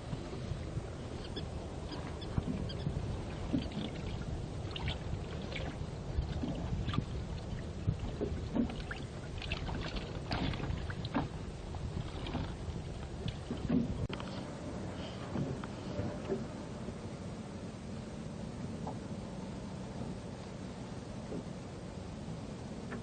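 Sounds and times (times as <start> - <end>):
steady low rumble: 0.0 - 23.0
water lapping against boat hull: 0.0 - 23.0.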